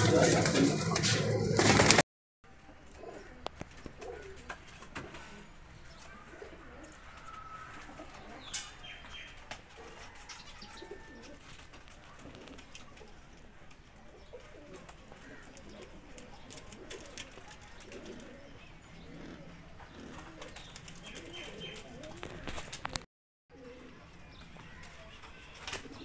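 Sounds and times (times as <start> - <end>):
pigeons cooing softly: 2.6 - 26.0.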